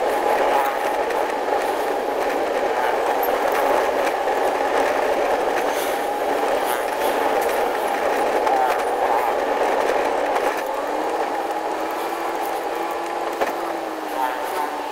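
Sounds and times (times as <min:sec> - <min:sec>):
vehicle engine and road noise: 0:00.0 - 0:14.9.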